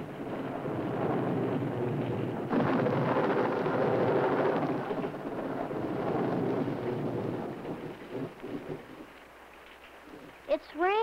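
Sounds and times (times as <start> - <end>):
thunder rumbling: 0.0 - 10.6
rain: 0.0 - 11.0.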